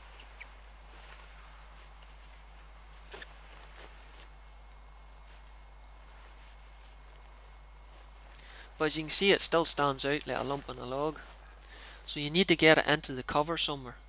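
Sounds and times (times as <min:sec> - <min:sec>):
net rustling and scraping: 0:00.0 - 0:12.2.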